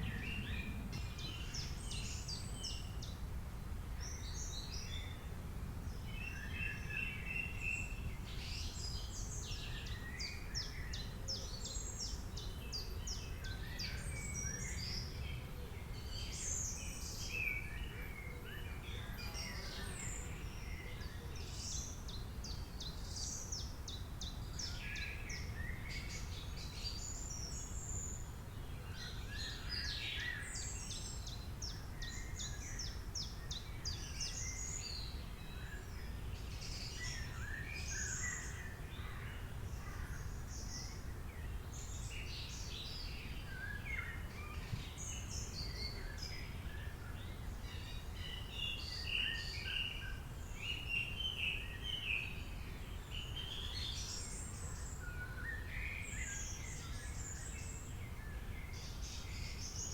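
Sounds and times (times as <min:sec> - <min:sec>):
low background hiss: 0:00.0 - 0:59.9
birds singing: 0:06.0 - 0:59.9.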